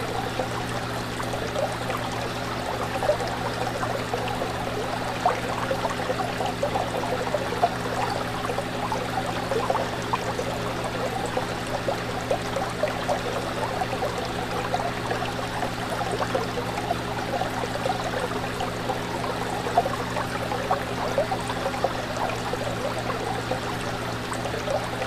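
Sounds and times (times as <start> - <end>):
fish tank water bubbling: 0.0 - 25.0.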